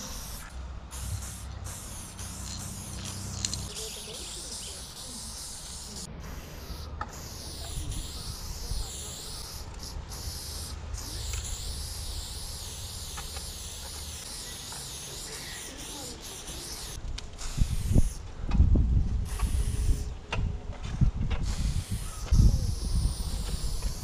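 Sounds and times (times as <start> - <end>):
spray-paint can hissing: 0.0 - 18.2, 19.2 - 20.1, 21.4 - 24.0.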